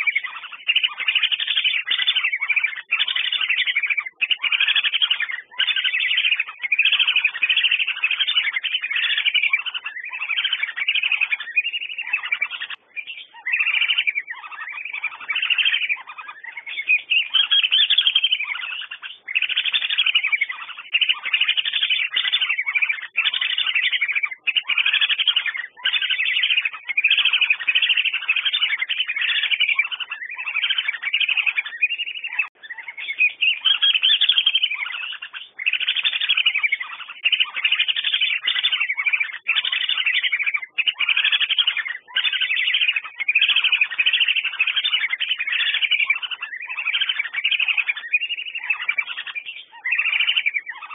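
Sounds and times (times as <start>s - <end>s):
whistling ducks calling: 0.0s - 50.9s.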